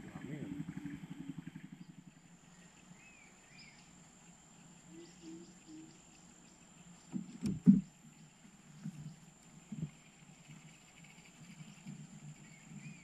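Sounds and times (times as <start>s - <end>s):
faint bird chirps: 0.2s - 13.0s
high insect drone: 0.6s - 13.0s.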